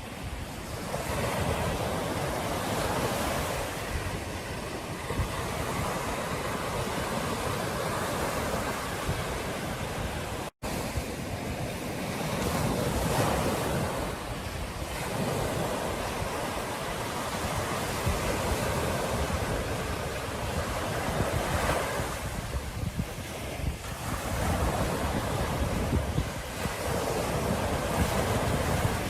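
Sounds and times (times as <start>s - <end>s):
ocean surf breaking on beach: 0.0s - 29.0s
wind rumbling on microphone: 0.0s - 29.0s.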